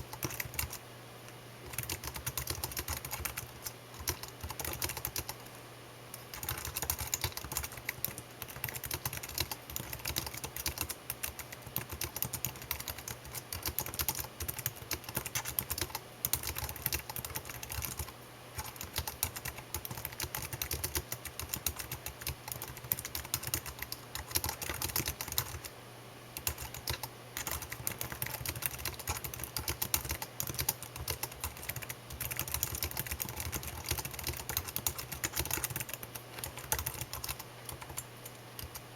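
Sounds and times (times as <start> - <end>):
typing on computer keyboard: 0.0 - 0.8, 1.6 - 5.4, 6.2 - 25.7, 26.4 - 38.8
faint low hum: 0.0 - 38.9.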